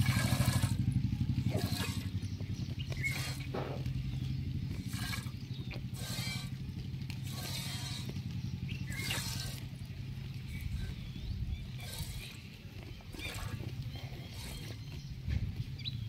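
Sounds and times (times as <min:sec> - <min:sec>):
motor droning: 0:00.0 - 0:16.0.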